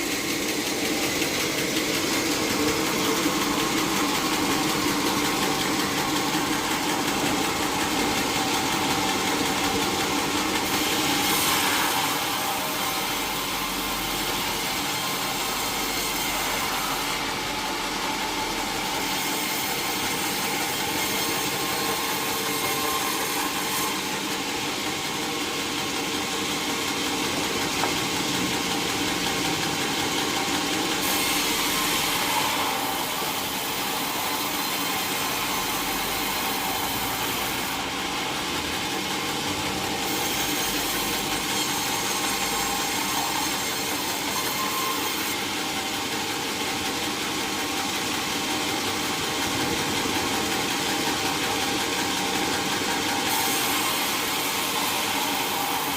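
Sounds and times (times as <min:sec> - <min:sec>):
saw cutting through log: 0:00.0 - 0:55.9.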